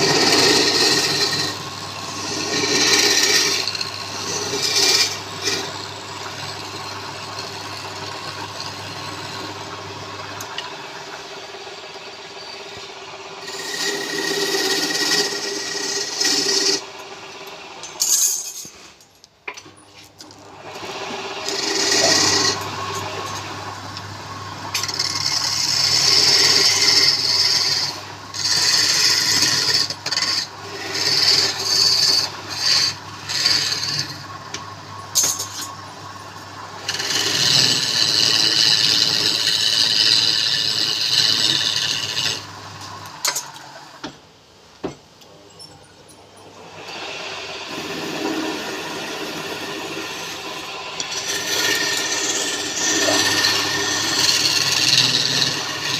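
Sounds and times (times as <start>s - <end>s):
tool scraping spinning wood: 0.0s - 19.0s, 19.8s - 44.1s, 46.5s - 55.9s.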